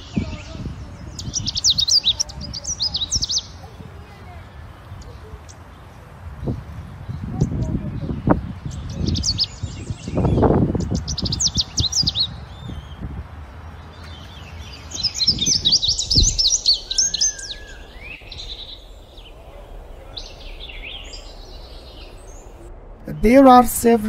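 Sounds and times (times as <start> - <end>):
low rumble: 0.0 - 24.0
small birds chirping: 0.0 - 24.0.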